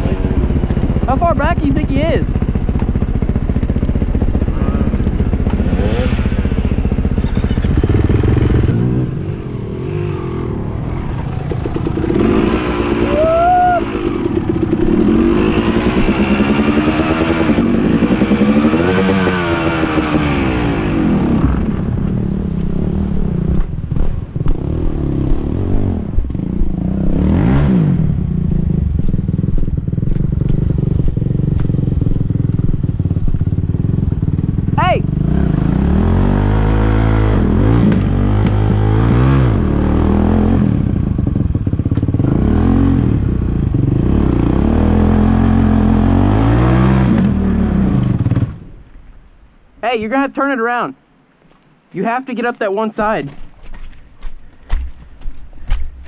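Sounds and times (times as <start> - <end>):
dirt bike engine revving: 0.0 - 48.7.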